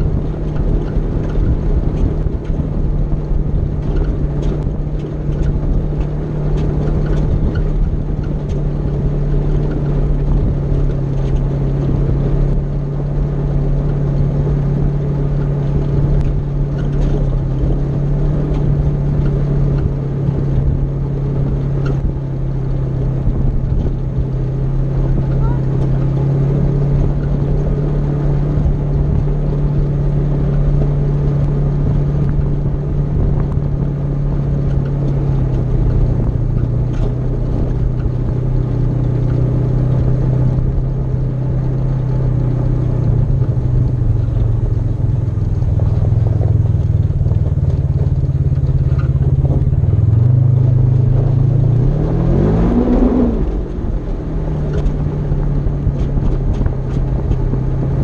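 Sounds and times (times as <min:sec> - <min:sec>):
vehicle engine running and revving: 0:00.0 - 0:58.0.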